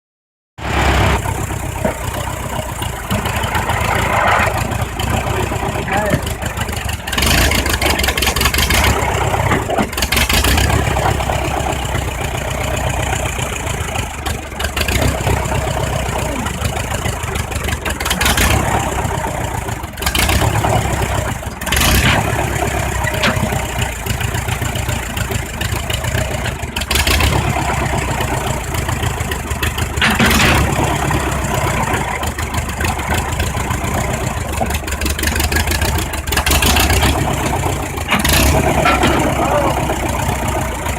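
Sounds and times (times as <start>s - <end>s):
tractor engine running: 0.6s - 40.9s.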